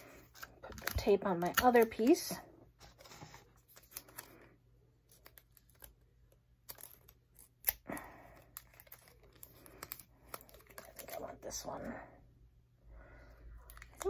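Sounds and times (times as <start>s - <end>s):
tape and paper rustling: 0.0s - 11.4s.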